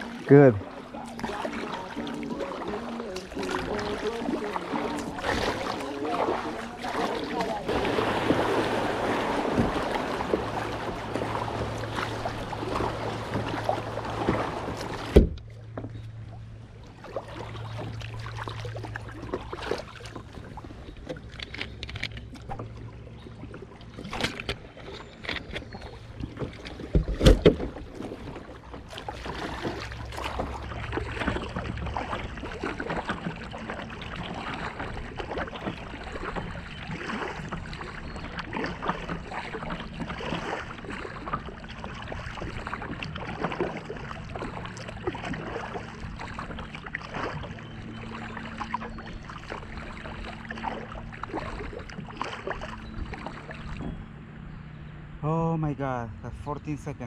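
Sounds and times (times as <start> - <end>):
paddle splashes: 0.0 - 55.6
water lapping: 0.0 - 57.0
water rushing around kayak hull: 0.0 - 57.0.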